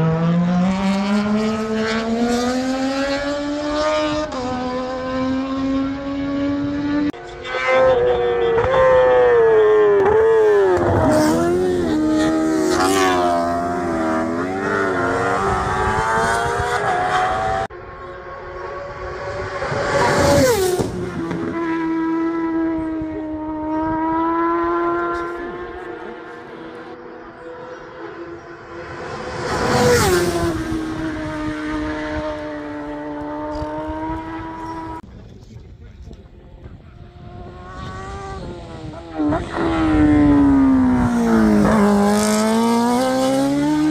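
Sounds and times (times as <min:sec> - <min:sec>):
racing motorcycle engine passing: 0:00.0 - 0:35.0, 0:36.6 - 0:43.9.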